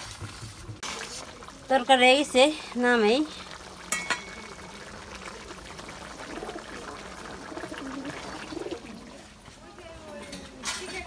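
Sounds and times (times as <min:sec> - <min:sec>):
curry simmering and bubbling: 0:00.0 - 0:11.0.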